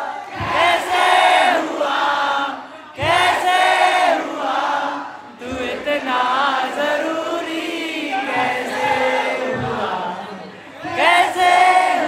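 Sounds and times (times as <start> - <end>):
crowd singing along: 0.0 - 12.0.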